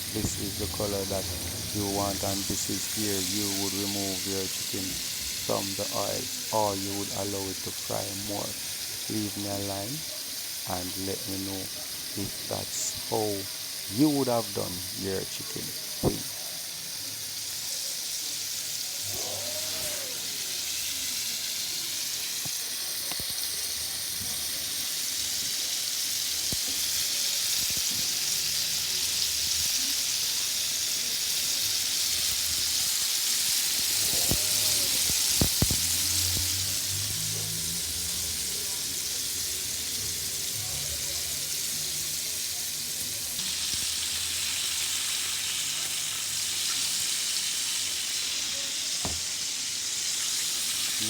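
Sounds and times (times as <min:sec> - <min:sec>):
chicken deep-frying in hot oil: 0:00.0 - 0:51.0.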